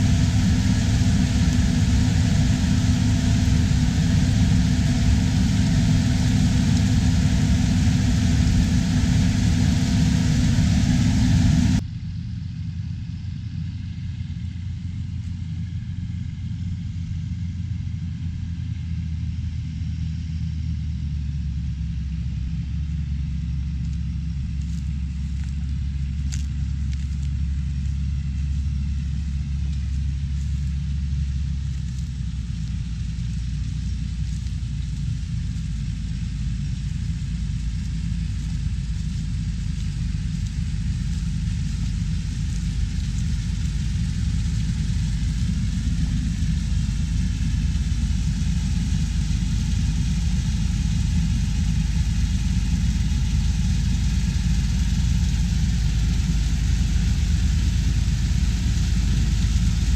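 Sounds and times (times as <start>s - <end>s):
farm machinery engine rumbling: 0.0s - 59.9s.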